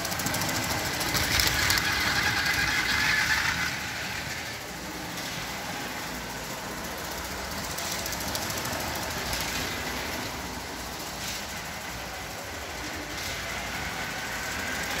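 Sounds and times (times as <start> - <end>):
toy train whirring rattle: 0.0 - 15.0.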